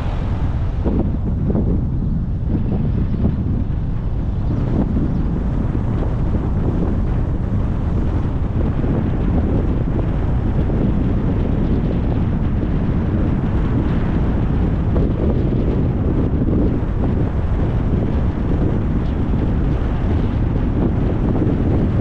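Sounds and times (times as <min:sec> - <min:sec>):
tyre and road rumble: 0:00.0 - 0:22.0
wind buffeting microphone: 0:00.0 - 0:22.0.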